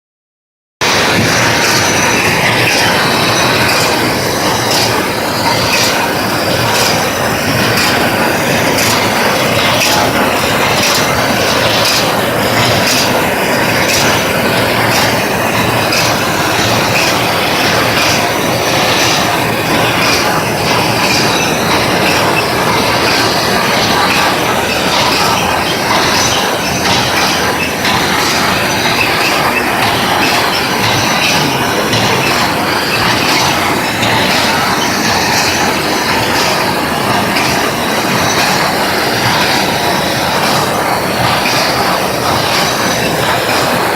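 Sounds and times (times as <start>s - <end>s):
cutting machine clattering: 0.8s - 43.9s.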